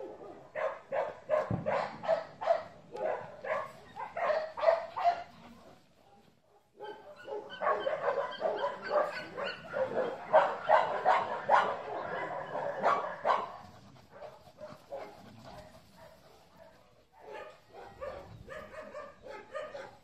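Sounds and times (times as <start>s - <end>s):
dog barking and yipping: 0.0s - 5.4s, 6.8s - 20.0s.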